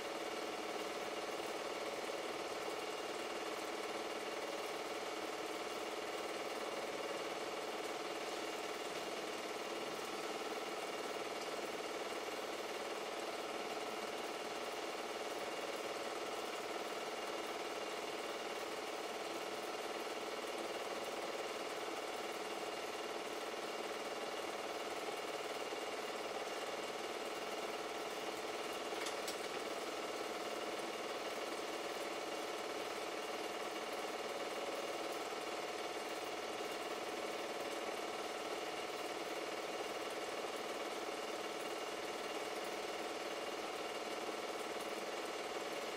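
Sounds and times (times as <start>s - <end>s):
film projector whirring: 0.0s - 45.9s.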